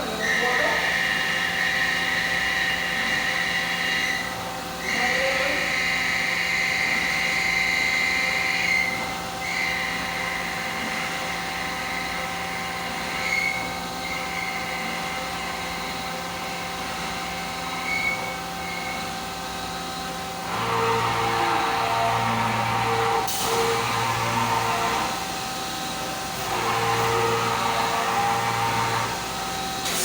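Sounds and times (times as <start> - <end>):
cnc machine hum: 0.0 - 30.0
high machine whine: 0.0 - 30.0
loud low machine sound: 0.0 - 30.0.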